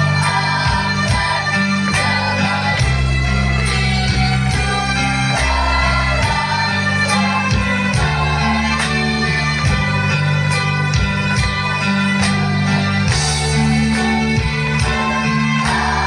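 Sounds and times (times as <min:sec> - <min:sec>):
children's choir singing: 0:00.0 - 0:10.4, 0:11.9 - 0:16.0
band accompaniment with bass and guitar: 0:00.0 - 0:16.0.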